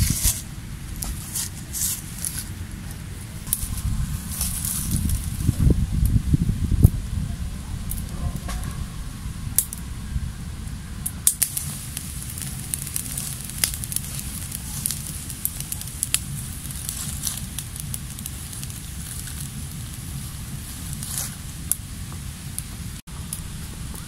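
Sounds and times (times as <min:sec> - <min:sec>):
fire crackling: 0:00.0 - 0:24.0
low steady rumble: 0:00.0 - 0:24.0.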